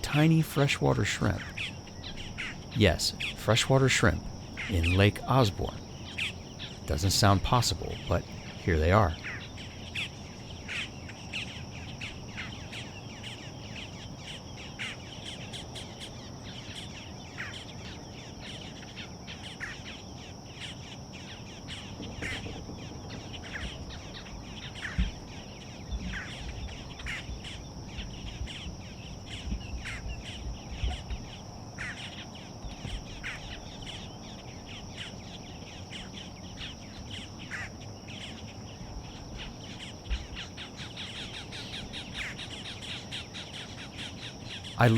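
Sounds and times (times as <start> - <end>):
high-pitched insect trill: 0.0 - 44.9.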